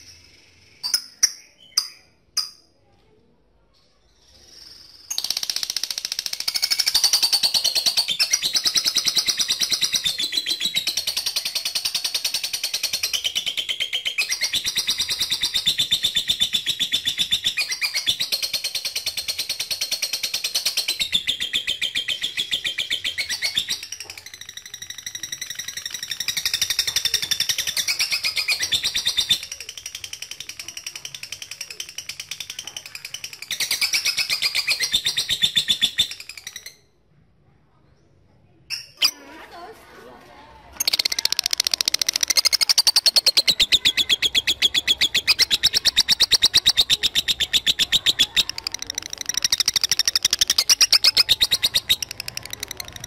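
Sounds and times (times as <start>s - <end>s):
lovebird chattering song: 5.0s - 36.8s, 40.8s - 53.0s.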